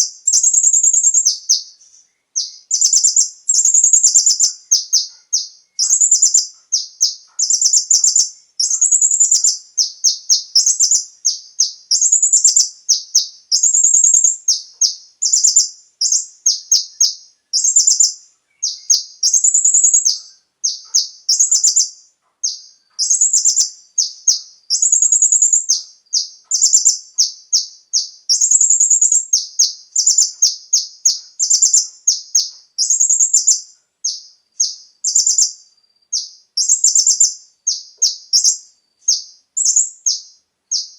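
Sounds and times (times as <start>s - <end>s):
sunbird chirping trills: 0.0s - 40.9s.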